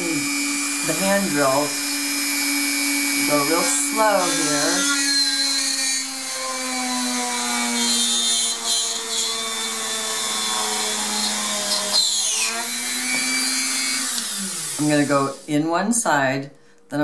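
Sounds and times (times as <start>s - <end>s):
rotary tool drilling whine: 0.0s - 15.6s.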